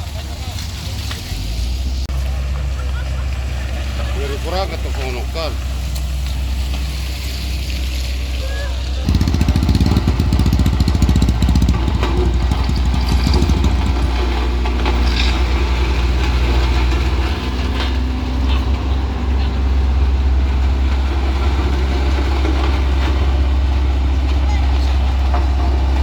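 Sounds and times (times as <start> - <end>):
heavy vehicle engine rumbling: 0.0 - 26.0.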